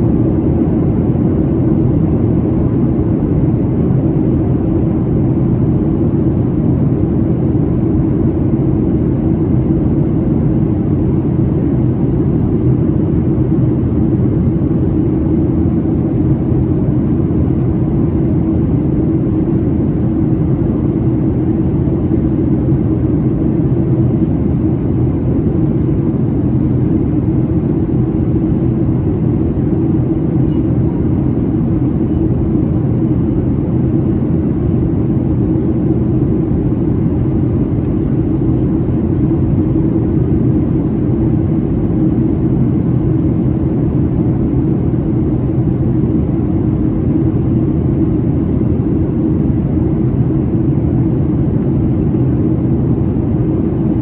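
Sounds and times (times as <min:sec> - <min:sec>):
jet engines droning: 0:00.0 - 0:54.0
steady low hum: 0:00.0 - 0:54.0.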